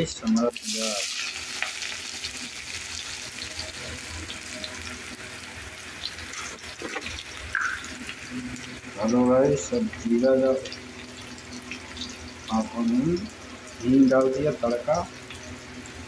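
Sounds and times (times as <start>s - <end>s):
onions sizzling in hot oil: 0.5s - 16.0s.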